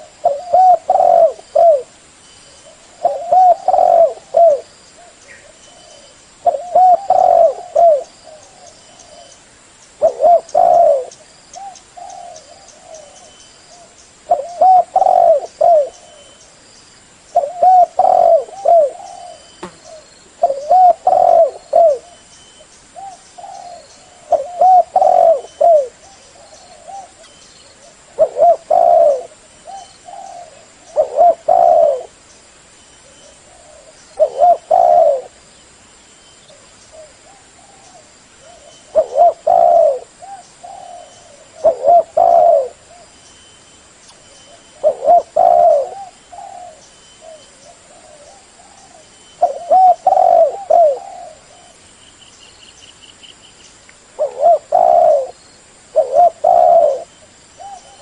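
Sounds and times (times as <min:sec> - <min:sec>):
dove cooing: 0:00.0 - 0:02.0, 0:02.6 - 0:09.4, 0:10.0 - 0:16.4, 0:17.3 - 0:22.2, 0:23.0 - 0:32.2, 0:33.0 - 0:35.4, 0:36.5 - 0:43.2, 0:44.2 - 0:51.8, 0:54.2 - 0:58.0.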